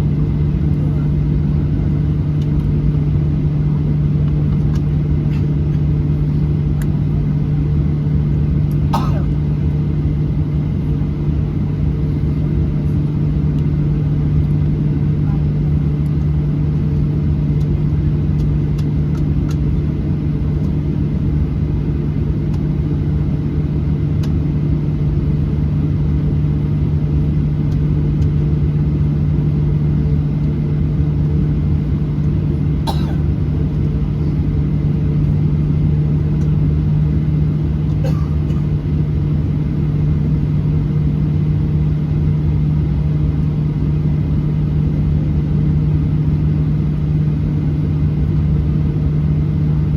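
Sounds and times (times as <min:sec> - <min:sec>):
aircraft cabin drone: 0:00.0 - 0:49.9.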